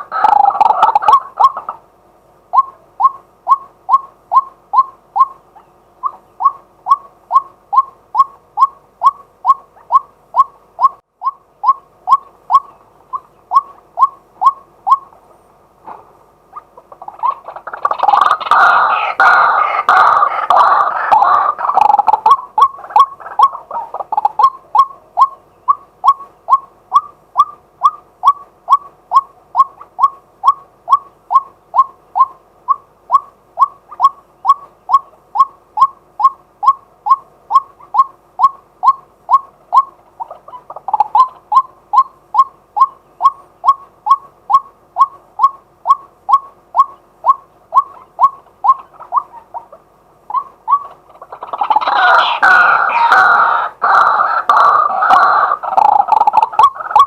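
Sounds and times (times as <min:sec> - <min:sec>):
waterhen calling kwak notes: 0:00.0 - 0:01.8, 0:02.5 - 0:15.2, 0:16.5 - 0:57.0.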